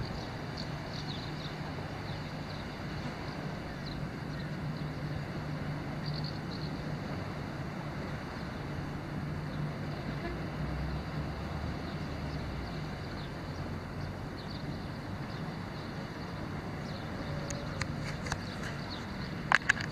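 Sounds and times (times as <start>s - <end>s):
distant engine droning: 0.0s - 19.9s.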